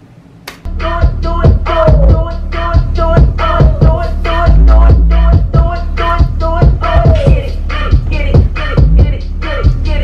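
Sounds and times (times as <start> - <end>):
hip hop dance track: 0.7 - 10.0.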